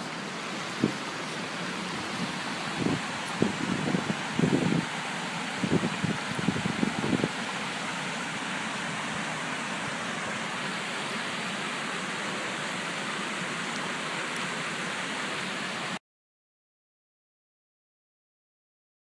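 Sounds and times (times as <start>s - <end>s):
steady hiss-like noise: 0.0s - 16.0s.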